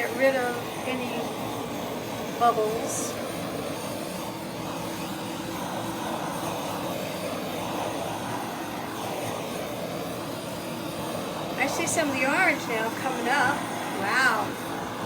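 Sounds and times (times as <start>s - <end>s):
heat gun humming: 0.0s - 15.0s.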